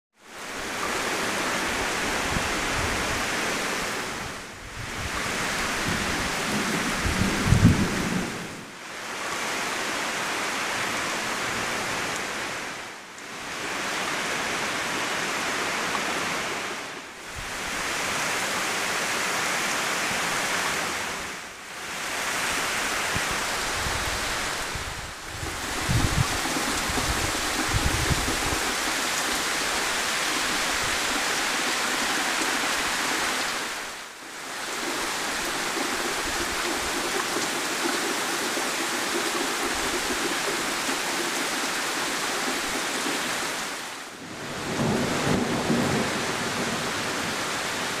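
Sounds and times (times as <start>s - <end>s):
heavy rain on trees: 0.1s - 48.0s.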